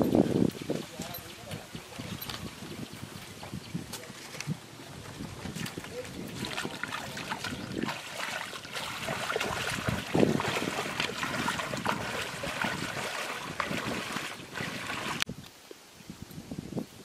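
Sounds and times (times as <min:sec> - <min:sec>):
footsteps splashing through muddy water: 0:00.0 - 0:15.3.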